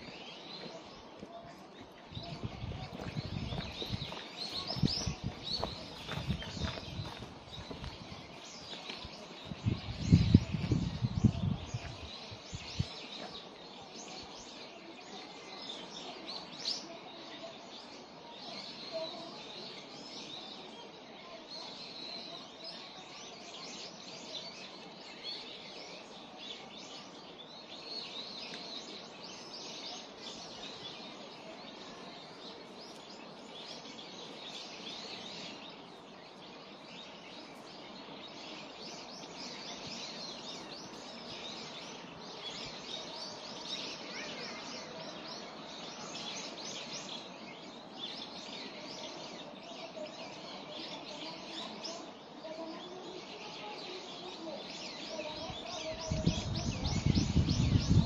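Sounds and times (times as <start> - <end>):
outdoor background noise: 0.0 - 58.0
songbirds chirping and twittering: 0.0 - 58.0.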